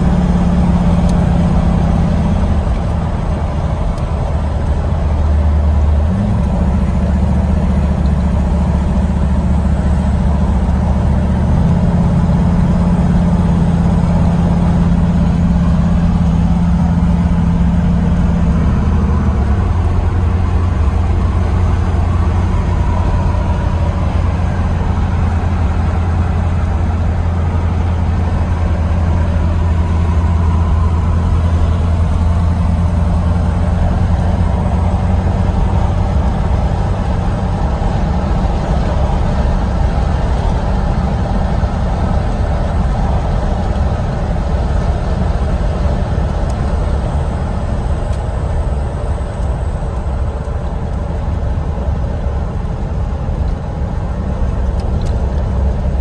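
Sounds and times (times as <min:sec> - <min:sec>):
car engine low drone: 0:00.0 - 0:56.0.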